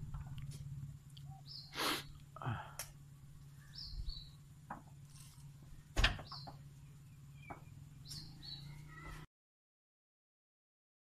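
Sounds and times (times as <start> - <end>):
birds chirping: 0.0 - 9.3
low steady hum: 0.0 - 9.3.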